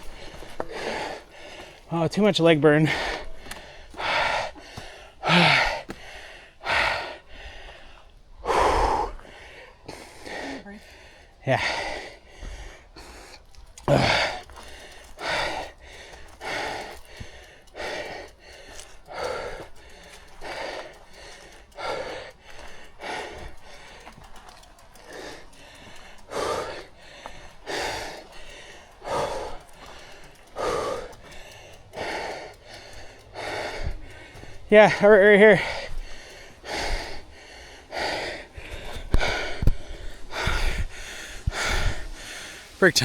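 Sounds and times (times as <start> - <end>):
person breathing hard: 0.0 - 43.0.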